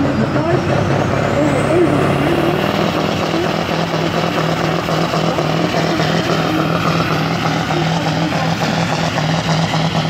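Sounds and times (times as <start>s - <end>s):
diesel truck engine under load: 0.0s - 10.0s.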